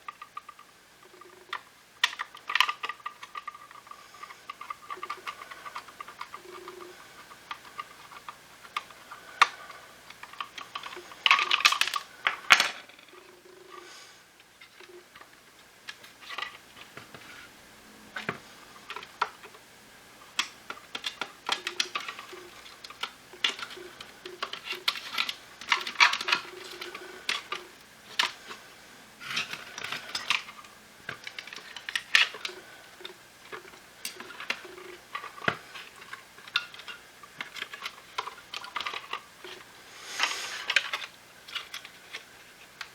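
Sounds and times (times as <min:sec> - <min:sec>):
plastic parts clicking and clattering: 0:00.0 - 0:13.8, 0:14.6 - 0:17.5, 0:18.2 - 0:19.6, 0:20.2 - 0:28.6, 0:29.2 - 0:42.9.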